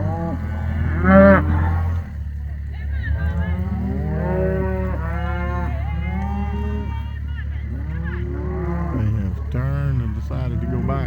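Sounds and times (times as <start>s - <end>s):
cattle mooing: 0.0s - 11.0s
steady low hum: 0.0s - 11.0s.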